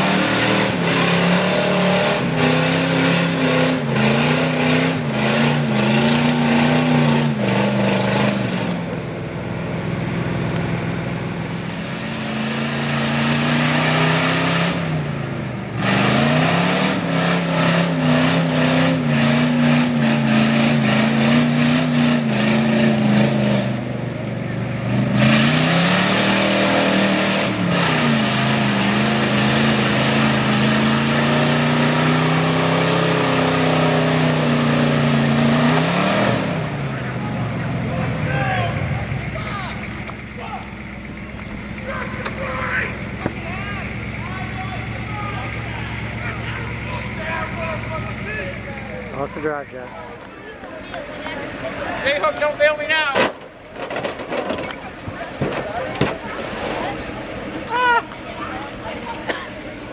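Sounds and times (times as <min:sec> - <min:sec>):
truck engine revving hard: 0:00.0 - 0:53.1.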